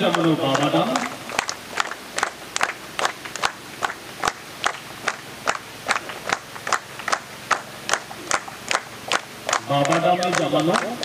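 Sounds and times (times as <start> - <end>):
group clapping in rhythm: 0.0 - 11.0.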